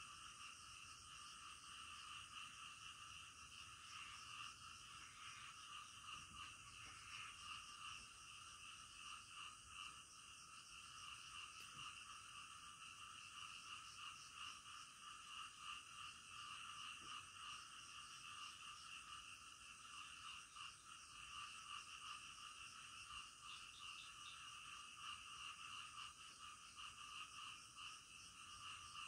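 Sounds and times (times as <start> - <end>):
frogs calling: 0.0 - 29.0
insects trilling: 0.0 - 29.0.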